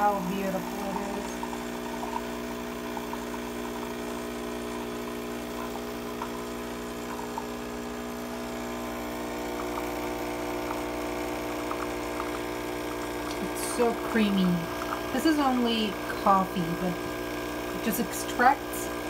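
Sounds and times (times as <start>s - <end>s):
espresso machine pump humming: 0.0s - 19.0s.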